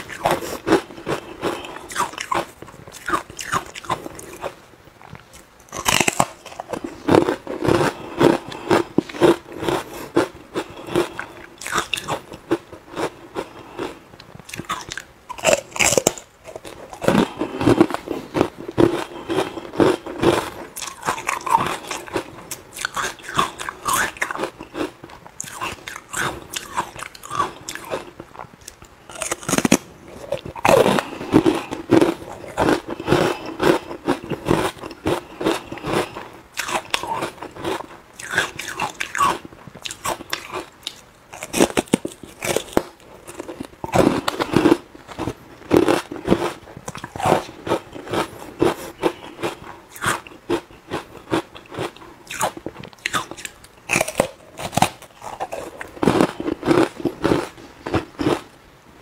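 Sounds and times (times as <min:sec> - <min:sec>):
ice cubes crunching when chewed: 0:00.0 - 0:04.6, 0:05.2 - 0:58.4.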